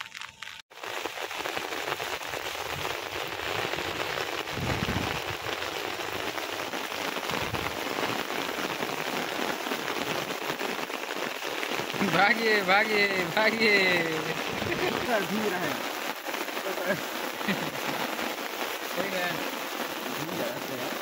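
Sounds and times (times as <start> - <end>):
rain falling on water: 0.0 - 21.0.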